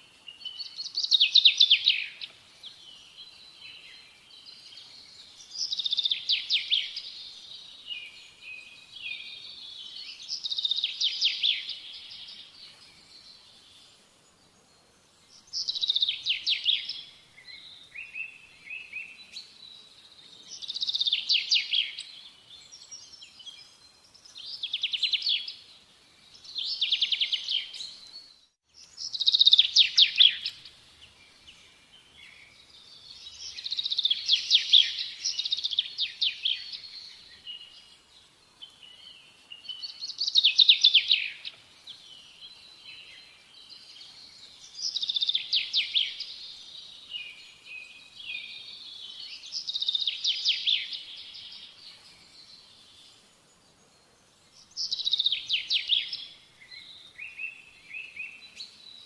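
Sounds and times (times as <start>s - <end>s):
bird singing trilled phrases: 0.0s - 14.0s, 15.3s - 59.0s
soft bird chirps: 0.0s - 59.0s.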